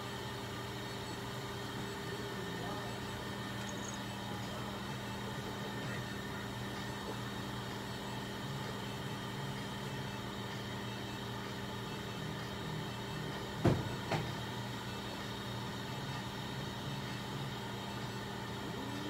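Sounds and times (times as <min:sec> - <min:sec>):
electrical equipment hum: 0:00.0 - 0:19.0.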